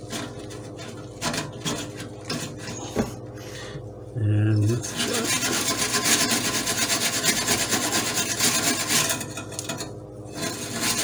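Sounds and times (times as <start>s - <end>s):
metal scouring pad scrubbing steel: 0.0s - 2.6s, 4.7s - 11.0s.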